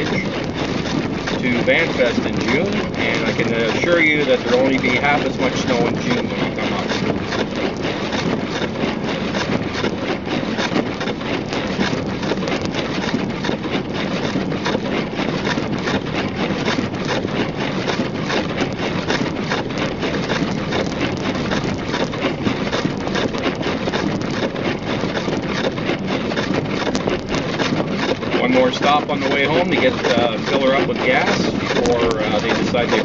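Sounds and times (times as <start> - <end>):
car engine running: 0.0 - 33.0
tyres on snowy road: 0.0 - 33.0.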